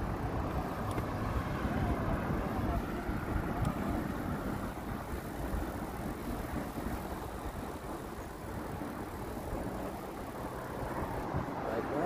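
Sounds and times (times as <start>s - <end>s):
bicycle road noise: 0.0s - 12.0s
wind on microphone: 0.0s - 12.0s.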